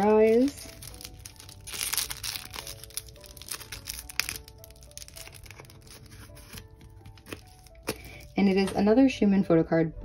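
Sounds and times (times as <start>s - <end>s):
packaging crinkling and tearing: 0.0s - 8.4s
soft background music: 0.0s - 10.0s.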